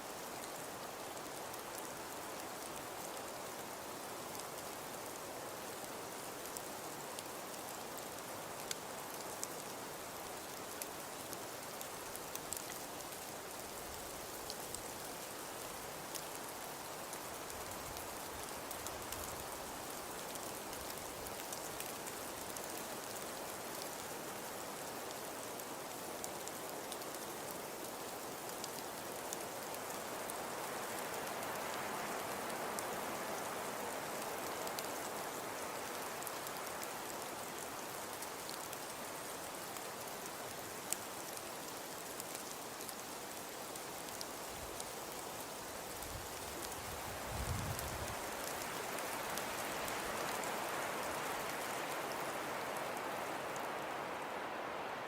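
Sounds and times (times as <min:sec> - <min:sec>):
pattering hiss of precipitation: 0:00.0 - 0:55.0.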